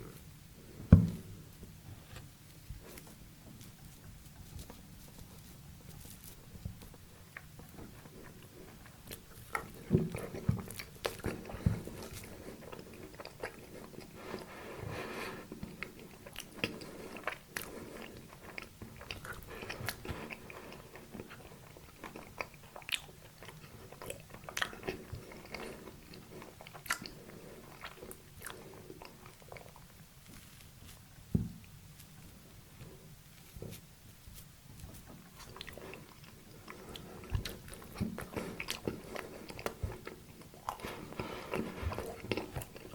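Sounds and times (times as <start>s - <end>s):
close-miked chewing and bites: 4.5s - 33.8s, 34.8s - 42.9s.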